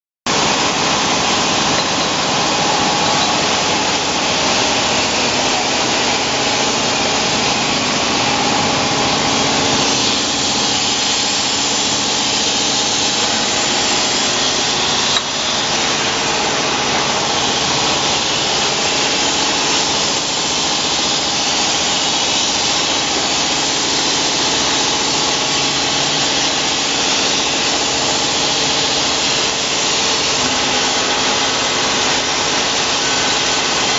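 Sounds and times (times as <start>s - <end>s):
bottling machine hissing: 0.3s - 33.9s.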